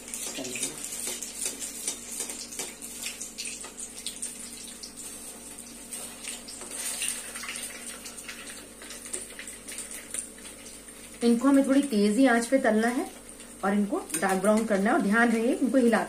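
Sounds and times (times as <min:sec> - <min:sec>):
balls deep-frying in hot oil: 0:00.0 - 0:16.0.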